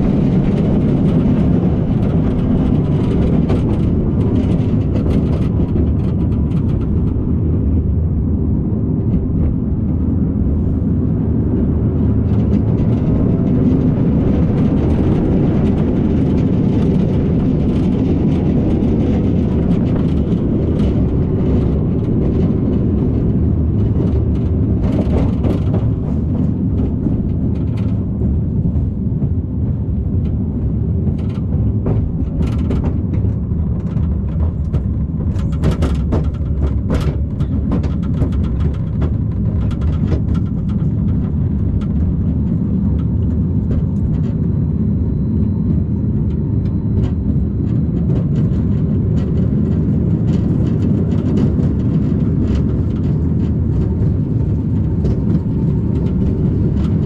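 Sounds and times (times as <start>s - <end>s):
roller coaster wheels rumbling on rail: 0.0s - 57.0s.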